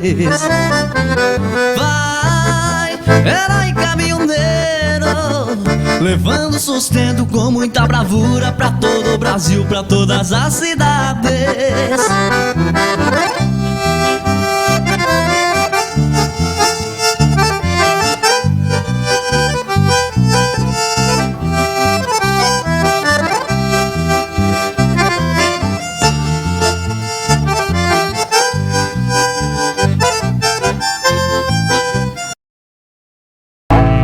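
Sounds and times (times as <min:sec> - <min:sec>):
pulsing bass: 0:00.0 - 0:32.2, 0:33.7 - 0:34.0
accordion: 0:00.0 - 0:32.4, 0:33.7 - 0:34.0
band playing: 0:00.2 - 0:32.3, 0:33.7 - 0:34.0.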